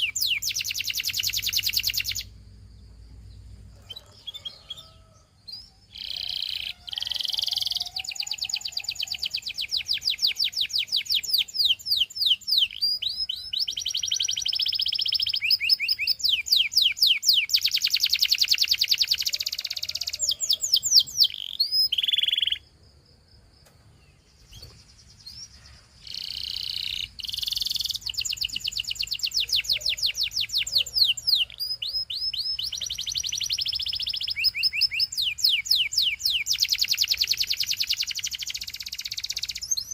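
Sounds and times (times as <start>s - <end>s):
canary singing trills: 0.0s - 22.7s, 24.0s - 39.9s.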